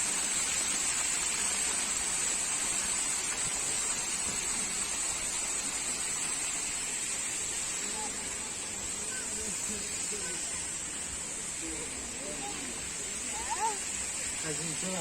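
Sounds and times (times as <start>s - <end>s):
rushing hiss: 0.0s - 15.0s.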